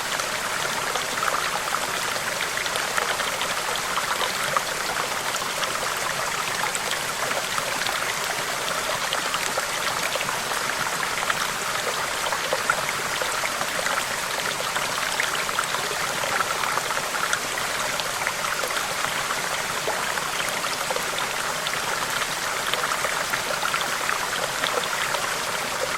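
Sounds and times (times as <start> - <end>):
stream babbling and trickling: 0.0 - 25.9.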